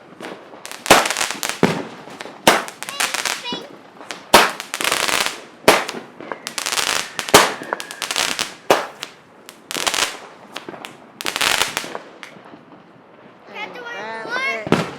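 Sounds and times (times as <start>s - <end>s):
fireworks bangs: 0.0s - 13.5s, 14.4s - 14.9s
fireworks crackling: 0.0s - 14.9s.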